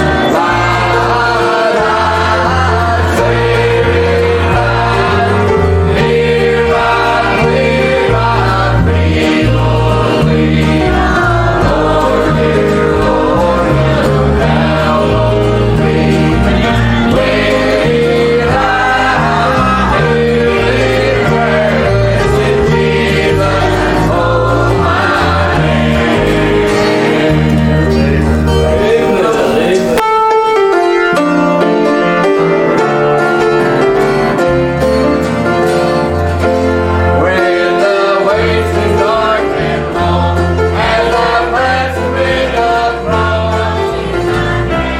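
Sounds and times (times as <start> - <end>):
choir gospel singing: 0.0 - 30.0, 32.7 - 44.9
instrumental accompaniment: 0.0 - 44.9.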